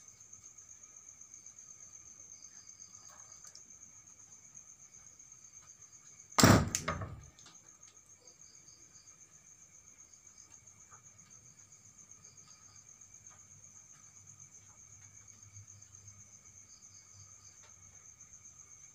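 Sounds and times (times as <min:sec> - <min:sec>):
crickets trilling: 0:00.0 - 0:18.9.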